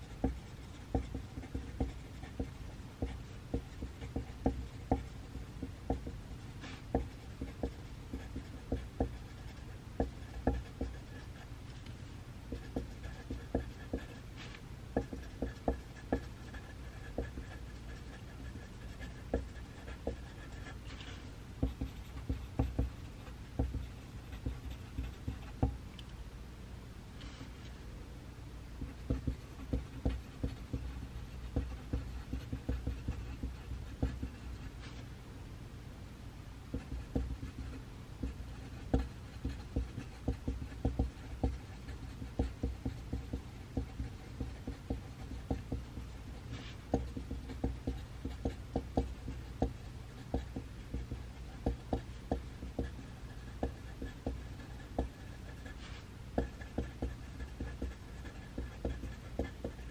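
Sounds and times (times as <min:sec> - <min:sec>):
pencil writing on paper: 0:00.0 - 0:11.9, 0:12.5 - 0:25.8, 0:28.8 - 0:35.1, 0:36.7 - 0:59.9
low room hum: 0:00.0 - 0:59.9.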